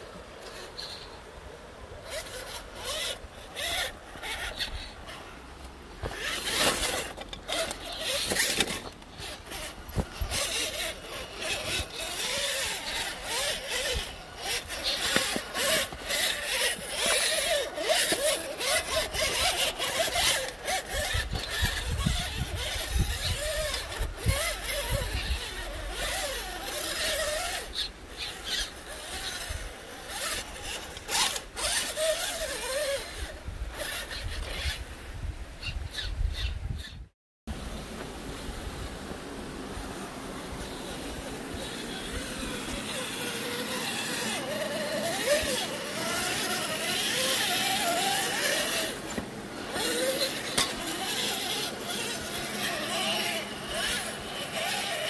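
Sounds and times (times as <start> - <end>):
small electric motor whining: 0.1 - 37.1, 39.5 - 55.0
tyres scraping on rock: 2.0 - 34.8, 40.6 - 55.0.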